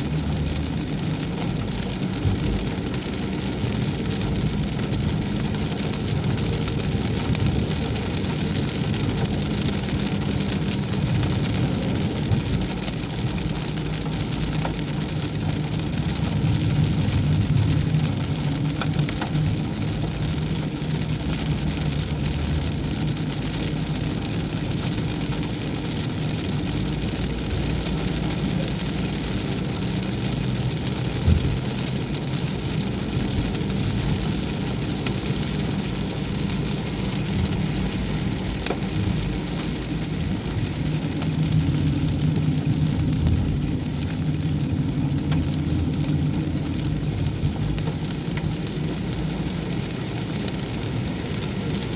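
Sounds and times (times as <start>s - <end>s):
car engine and tyre noise: 0.0s - 51.9s
hiss of rain: 0.0s - 51.9s.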